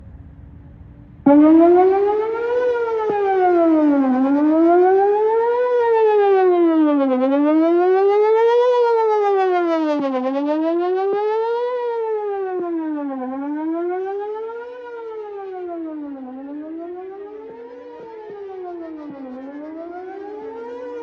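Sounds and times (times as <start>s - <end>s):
outdoor warning siren wailing: 0.0s - 21.0s.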